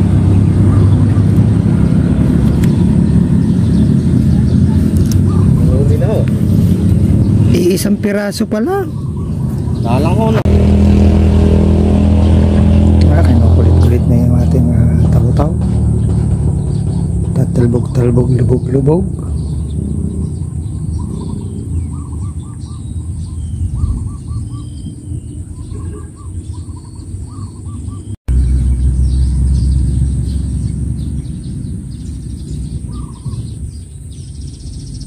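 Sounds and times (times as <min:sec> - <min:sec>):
birds calling: 0:00.0 - 0:35.0
high bird chirps: 0:00.0 - 0:35.0
steady low rumble: 0:00.0 - 0:35.0.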